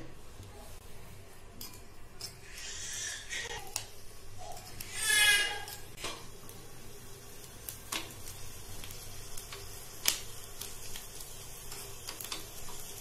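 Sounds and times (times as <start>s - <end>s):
oil sizzling faintly: 0.0s - 13.0s.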